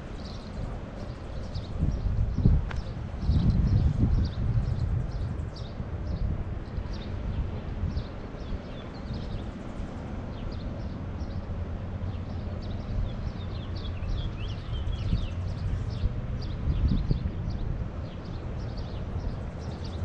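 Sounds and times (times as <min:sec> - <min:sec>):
wind buffeting microphone: 0:00.0 - 0:20.0
small birds chirping: 0:00.1 - 0:11.5, 0:12.1 - 0:20.0.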